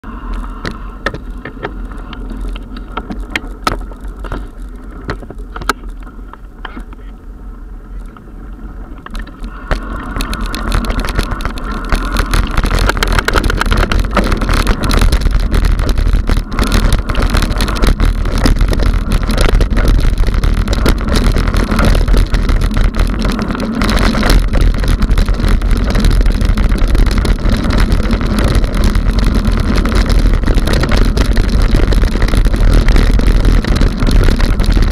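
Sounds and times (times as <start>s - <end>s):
bike rumbling over gravel: 0.0s - 34.9s
bike tyres and frame rattling: 0.0s - 34.9s
wind on microphone: 0.0s - 34.9s.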